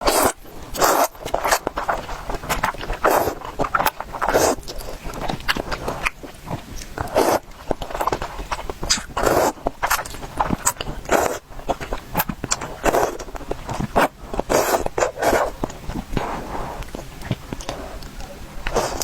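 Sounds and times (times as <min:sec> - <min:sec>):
chewing and biting noodles: 0:00.0 - 0:19.0.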